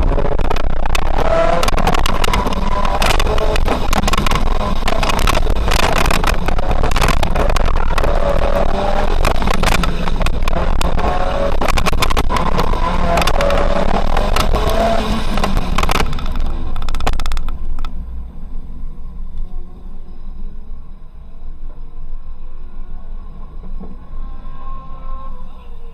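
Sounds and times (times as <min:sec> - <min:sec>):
car engine running hard: 0:00.0 - 0:25.9.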